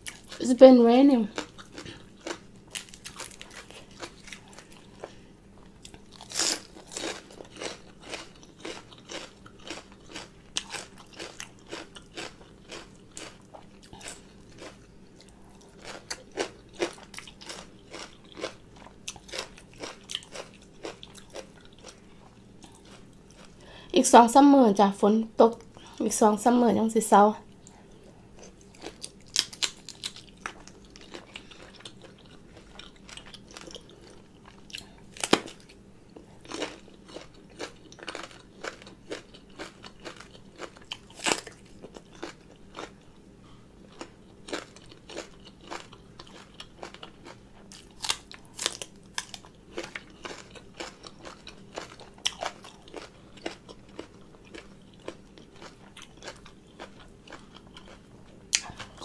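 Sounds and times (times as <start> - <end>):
chewing and crunching: 0.0 - 0.4, 1.3 - 23.9, 27.5 - 59.0.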